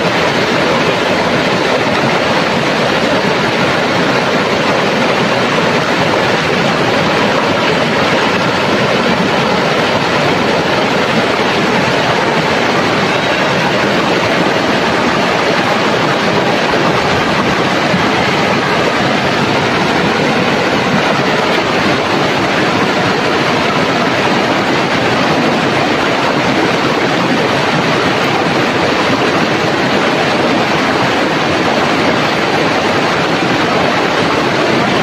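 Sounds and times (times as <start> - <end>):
river rapids rushing over stones: 0.0 - 35.0.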